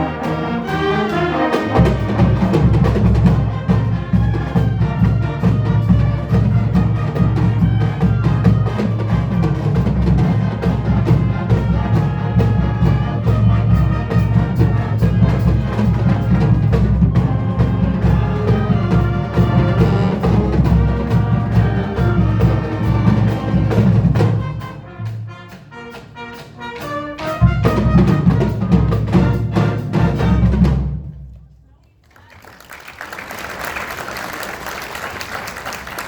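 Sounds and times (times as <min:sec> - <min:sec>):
marching band brass and drums: 0:00.0 - 0:31.4.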